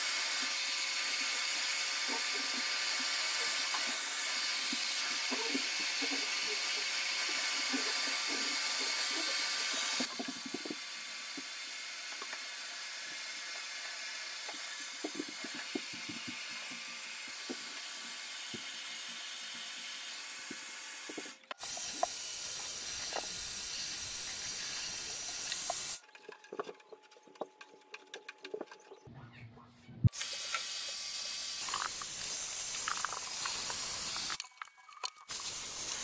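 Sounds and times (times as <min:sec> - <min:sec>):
heat gun blowing hiss: 0:00.0 - 0:26.0, 0:30.1 - 0:34.4, 0:35.3 - 0:36.0.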